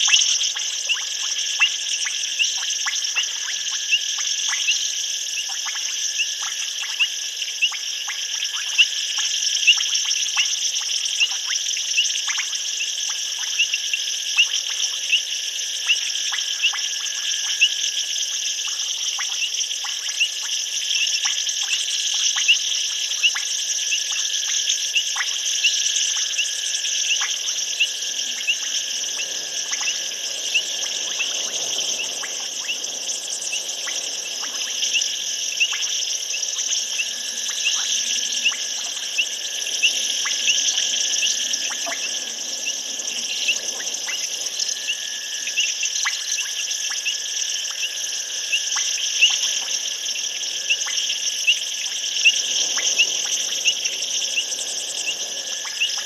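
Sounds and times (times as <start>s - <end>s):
high-pitched insect trill: 0.0s - 56.0s.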